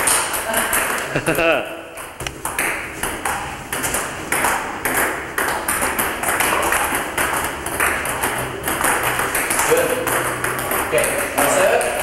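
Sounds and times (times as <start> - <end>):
table tennis rally: 0.0 - 12.0.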